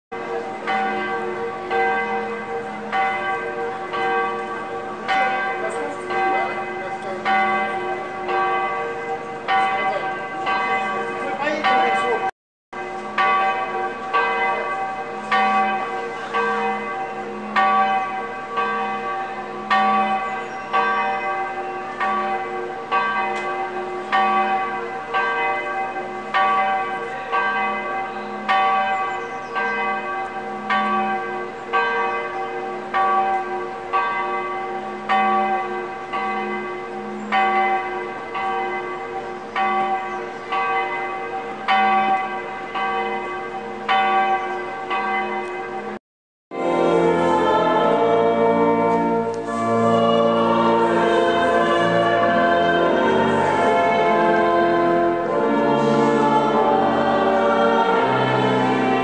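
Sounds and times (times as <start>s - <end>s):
church bells ringing: 0.1s - 59.0s.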